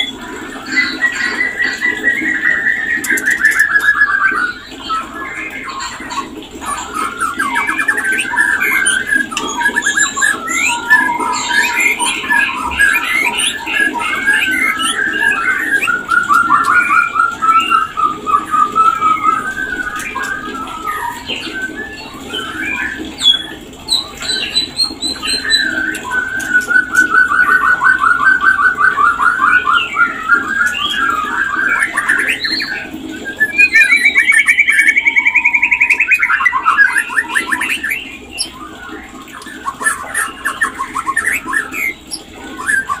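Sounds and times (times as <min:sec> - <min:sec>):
bird rapid trills: 0:00.0 - 0:43.0
bird whistles and chirps: 0:00.0 - 0:43.0.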